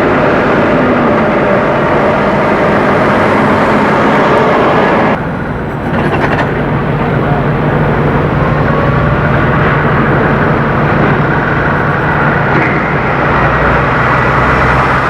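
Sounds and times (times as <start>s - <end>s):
diesel truck engine running: 0.0s - 15.0s
road noise: 0.0s - 15.0s.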